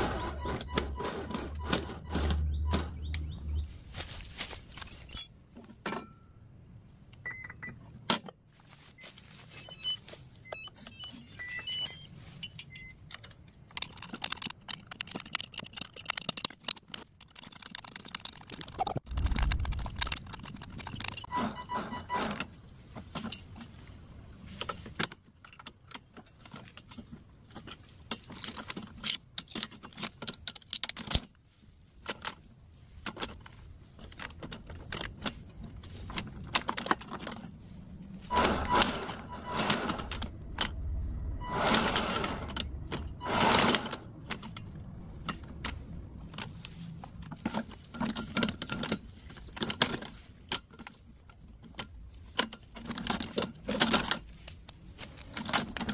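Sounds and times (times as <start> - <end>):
metal parts and tools clinking: 0.0 - 3.0, 4.0 - 6.4, 9.0 - 55.9.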